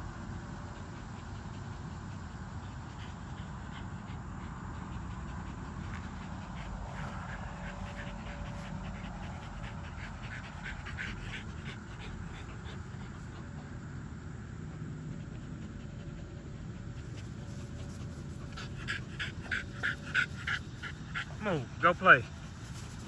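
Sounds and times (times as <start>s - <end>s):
puppy panting: 0.0s - 23.0s
steady low rumble: 0.0s - 23.0s.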